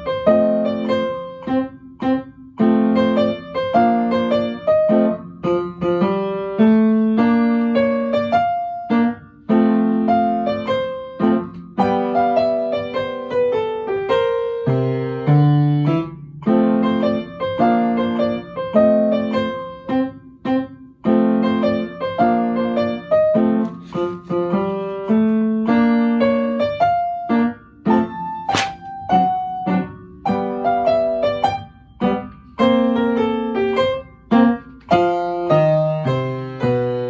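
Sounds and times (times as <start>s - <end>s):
upright piano swing piece: 0.0s - 37.0s.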